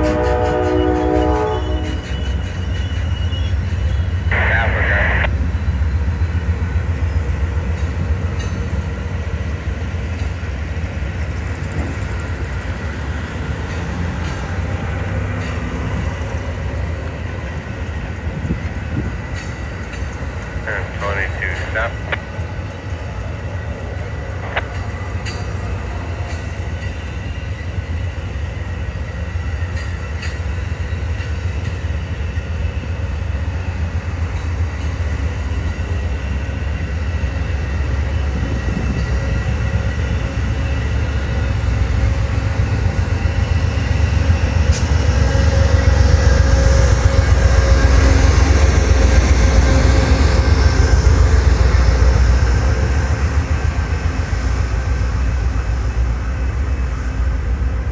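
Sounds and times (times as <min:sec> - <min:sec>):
diesel locomotive passing: 0:00.0 - 0:57.9
train wheel-on-rail rumble: 0:00.0 - 0:57.9.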